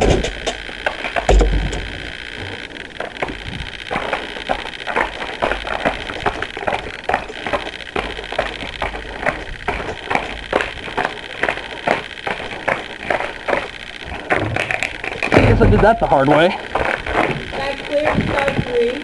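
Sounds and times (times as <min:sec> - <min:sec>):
sled bumping and knocking: 0:00.0 - 0:19.0
sled runners scraping on ice: 0:00.0 - 0:19.0
steady hiss: 0:00.0 - 0:19.0.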